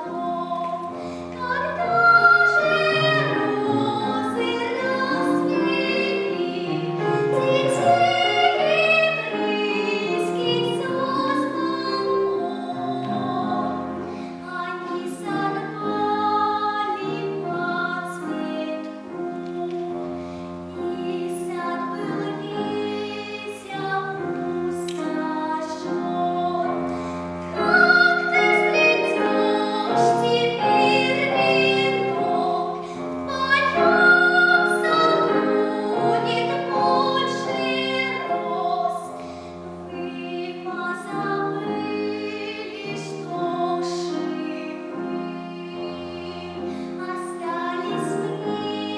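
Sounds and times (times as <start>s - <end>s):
child singing classical piece: 0.0s - 48.9s
piano accompaniment: 0.0s - 48.9s.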